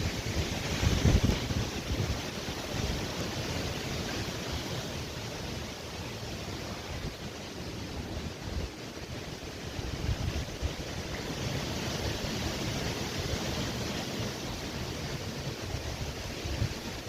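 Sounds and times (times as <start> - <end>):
gusty storm wind: 0.0 - 17.0
wind buffeting microphone: 0.0 - 17.0.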